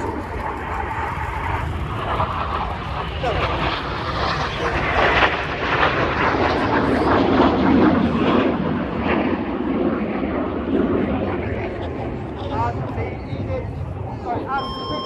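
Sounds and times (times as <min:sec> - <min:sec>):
jets flying past: 0:00.0 - 0:14.5.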